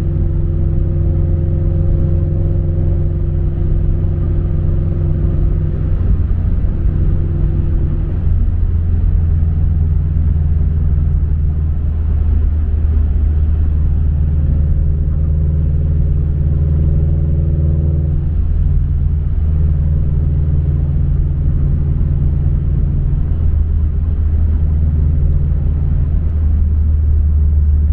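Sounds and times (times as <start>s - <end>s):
car engine rumble from inside cabin: 0.0s - 27.9s.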